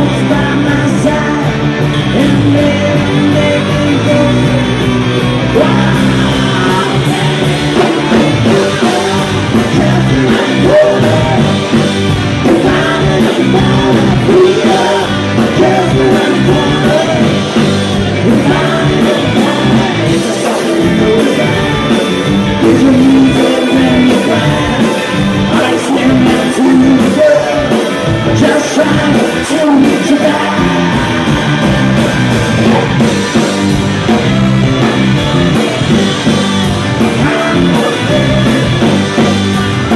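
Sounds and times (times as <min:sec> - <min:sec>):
man singing: 0:00.0 - 0:32.9, 0:36.9 - 0:39.9
live rock band playing: 0:00.0 - 0:39.9.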